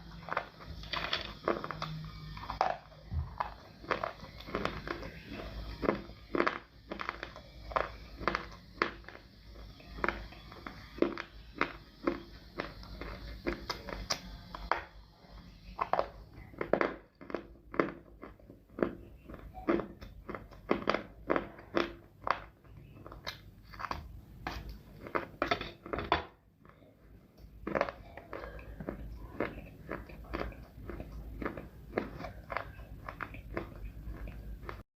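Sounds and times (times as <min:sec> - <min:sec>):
person chewing crunchy clay: 0:00.0 - 0:34.8.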